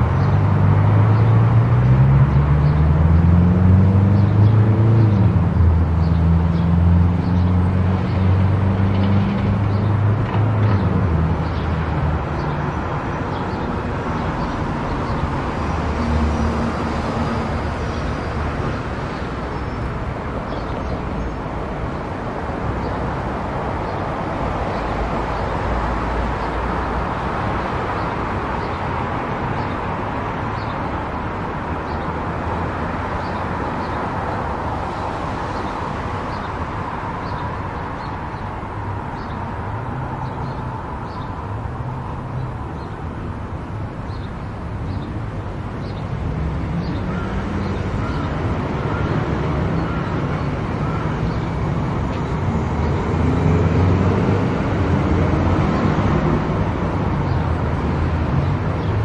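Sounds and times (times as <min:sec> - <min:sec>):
car tyre and engine noise: 0:00.0 - 0:59.0.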